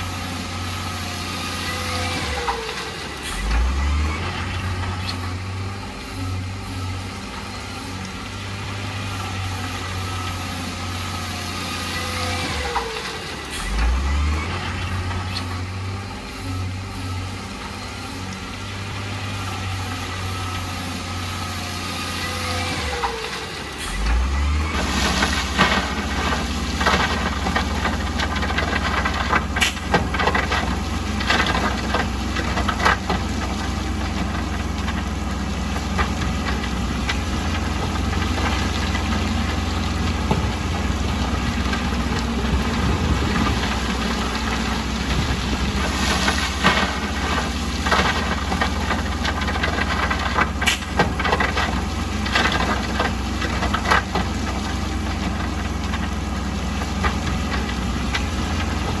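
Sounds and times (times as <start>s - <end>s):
diesel machinery engine running: 0.0s - 59.0s.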